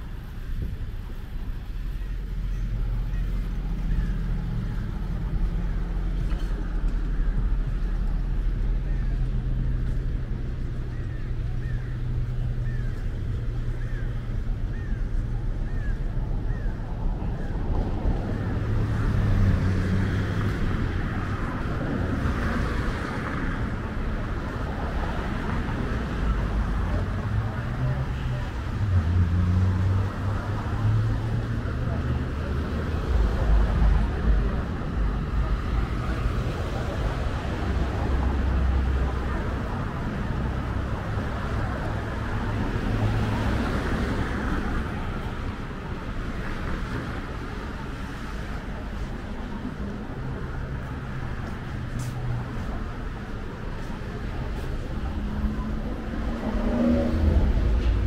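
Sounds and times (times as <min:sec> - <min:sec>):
cars passing: 0:00.0 - 0:58.0
low engine rumble: 0:00.0 - 0:58.0
rush of tyre noise: 0:00.0 - 0:58.0
vehicles driving past: 0:00.0 - 0:58.0.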